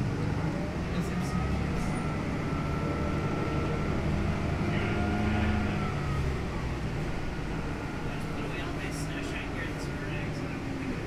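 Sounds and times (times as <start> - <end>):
bus engine rumble: 0.0 - 11.0.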